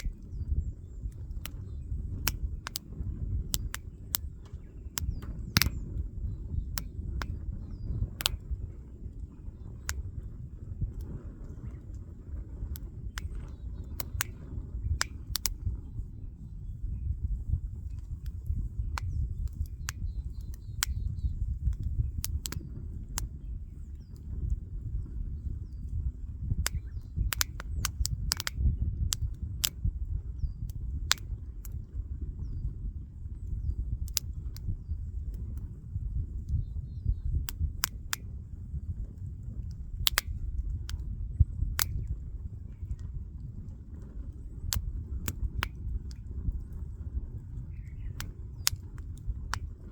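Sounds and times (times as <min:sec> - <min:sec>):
wood fire crackling: 0:00.0 - 0:16.7, 0:17.3 - 0:32.4, 0:33.2 - 0:36.6, 0:37.2 - 0:49.9.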